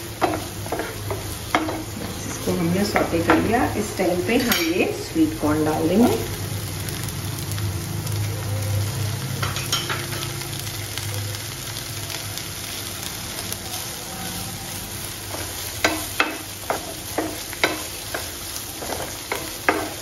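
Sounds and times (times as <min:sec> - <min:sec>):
vegetables sizzling in a frying pan: 0:00.0 - 0:20.0.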